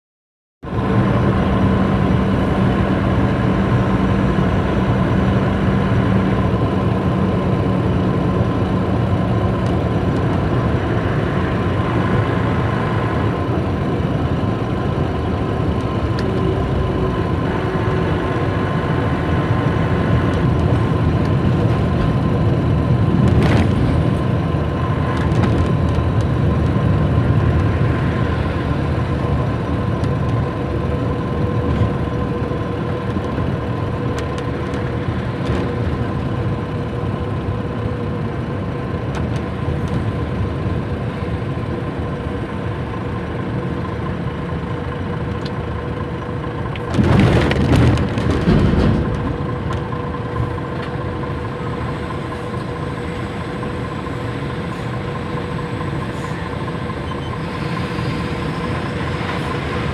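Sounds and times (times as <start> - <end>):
truck diesel engine and road noise: 0.6 - 59.9.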